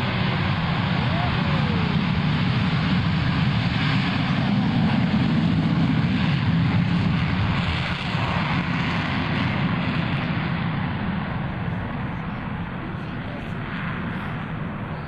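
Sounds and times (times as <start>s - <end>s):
loud jet roar: 0.0s - 12.8s.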